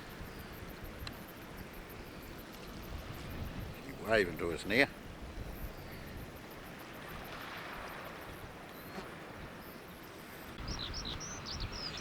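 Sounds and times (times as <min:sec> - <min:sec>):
moving water: 0:00.0 - 0:12.0
wind hiss: 0:00.0 - 0:12.0.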